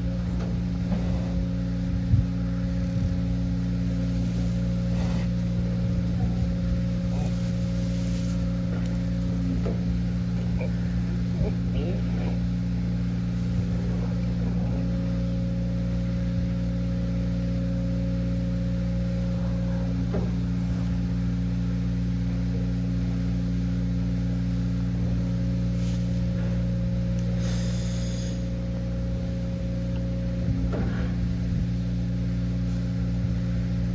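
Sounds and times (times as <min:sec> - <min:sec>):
machinery humming: 0:00.0 - 0:33.9.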